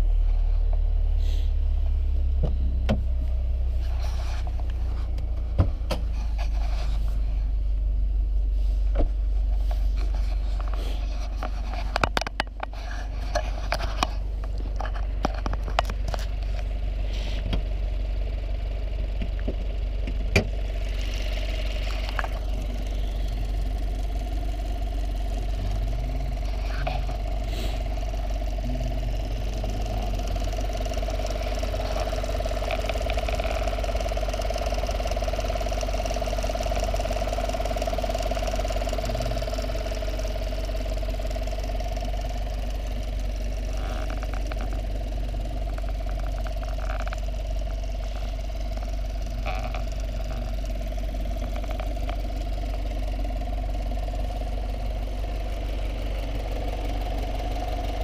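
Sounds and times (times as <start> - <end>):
motor running steadily: 0.0 - 58.0.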